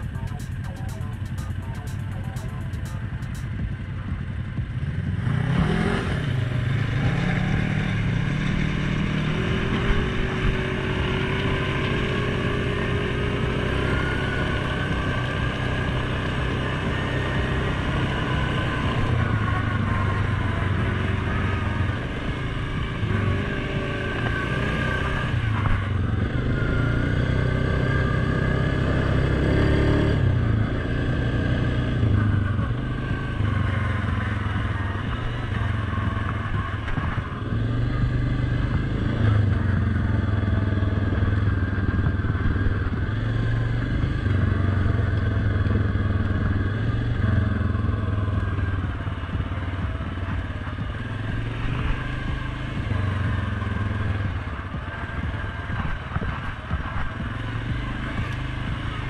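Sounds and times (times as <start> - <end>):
all-terrain vehicle engine revving: 0.0 - 59.0.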